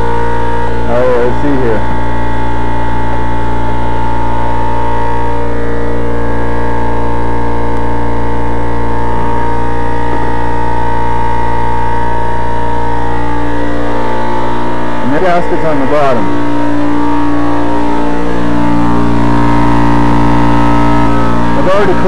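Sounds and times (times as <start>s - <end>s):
loud steady machine drone: 0.0s - 22.0s.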